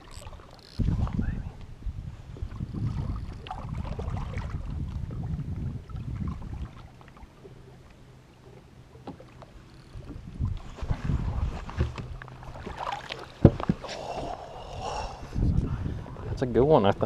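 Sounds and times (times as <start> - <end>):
low rumbling wind: 0.0 - 17.0
water noise: 0.0 - 17.0.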